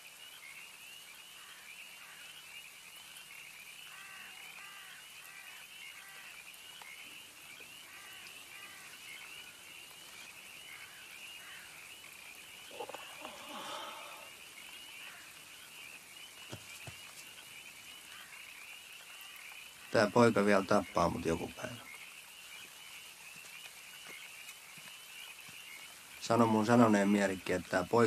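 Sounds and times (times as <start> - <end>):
frogs croaking chorus: 0.0 - 28.0.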